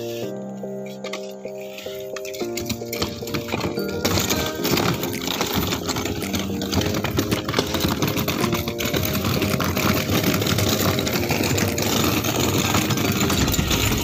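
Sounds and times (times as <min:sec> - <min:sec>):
casters rolling over rough concrete: 0:00.0 - 0:14.0.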